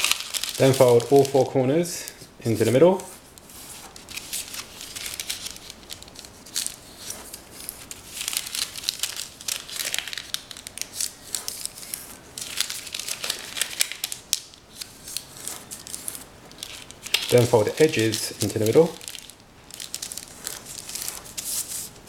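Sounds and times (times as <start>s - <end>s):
parchment paper crinkling: 0.0s - 22.0s.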